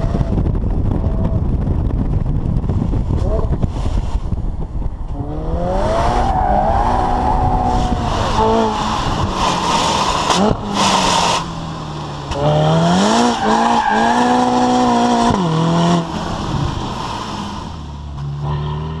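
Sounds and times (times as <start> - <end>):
rush of noise: 0.0 - 18.0.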